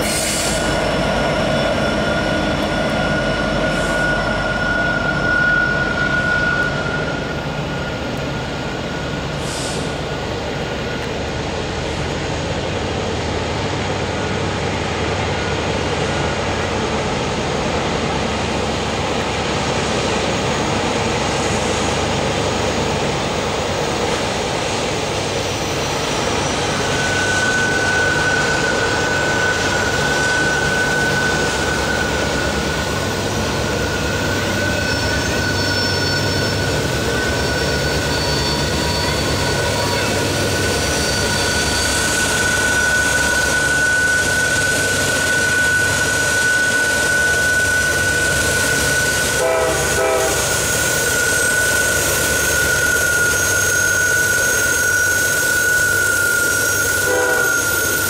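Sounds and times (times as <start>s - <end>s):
steady high tone: 0.0s - 11.4s, 21.2s - 58.0s
diesel locomotive engine drone: 0.0s - 58.0s.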